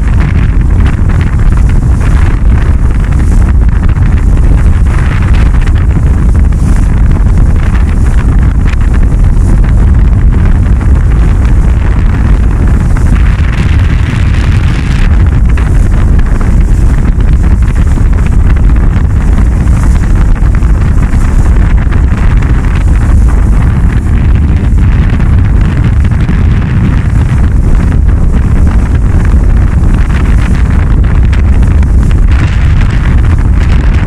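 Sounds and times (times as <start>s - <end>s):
bow wave and wake rushing: 0.0s - 34.0s
wind buffeting microphone: 0.0s - 34.0s.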